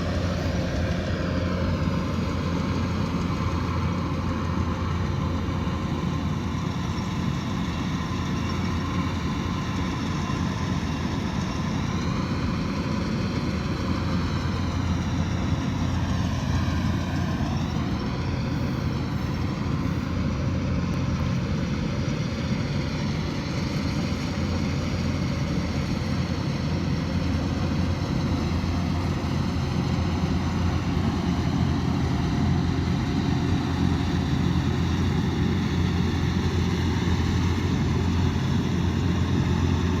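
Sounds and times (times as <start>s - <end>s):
combine harvester drone: 0.0s - 40.0s.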